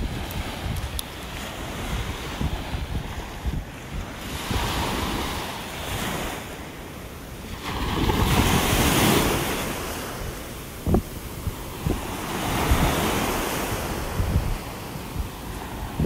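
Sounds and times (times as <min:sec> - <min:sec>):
surf washing up sand: 0:00.0 - 0:16.0
wind buffeting microphone: 0:00.0 - 0:16.0.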